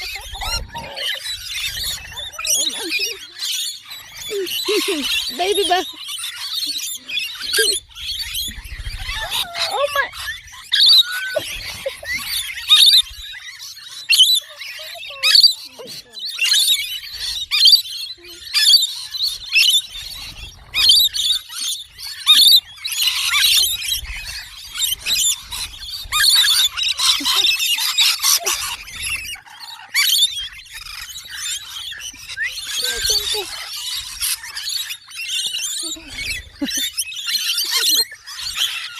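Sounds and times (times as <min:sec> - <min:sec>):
pet birds chirping and squealing: 0:00.0 - 0:38.9.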